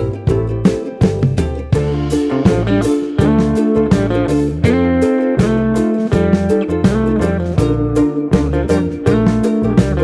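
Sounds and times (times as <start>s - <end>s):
bass line: 0.0s - 10.0s
plucked guitar notes: 0.0s - 10.0s.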